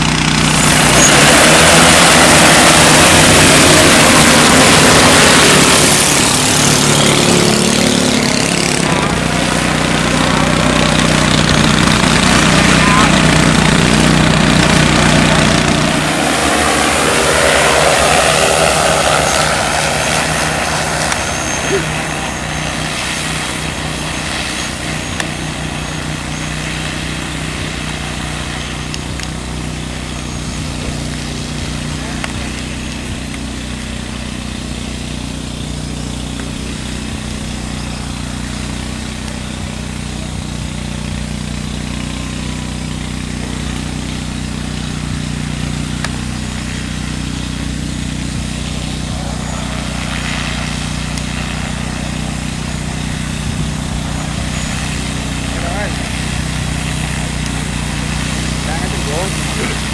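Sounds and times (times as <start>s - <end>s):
drone rotors humming: 0.0s - 59.9s.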